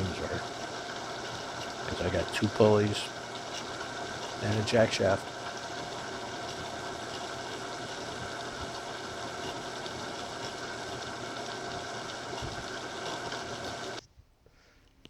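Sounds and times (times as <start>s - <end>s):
electric motor hum: 0.0s - 14.0s
lathe belt drive turning: 0.0s - 14.0s.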